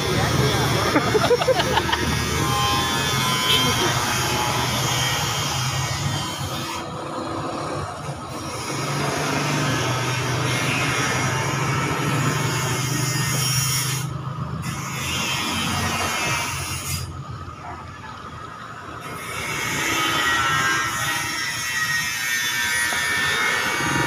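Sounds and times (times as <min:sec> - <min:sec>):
street noise: 0:00.0 - 0:24.0.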